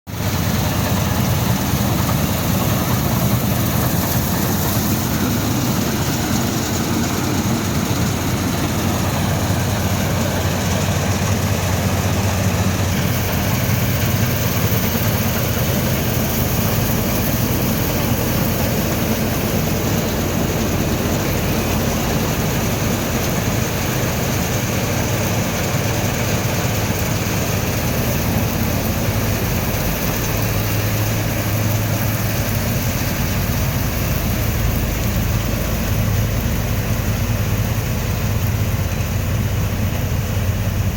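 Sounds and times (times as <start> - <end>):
combine harvester diesel engine: 0.1 - 40.9.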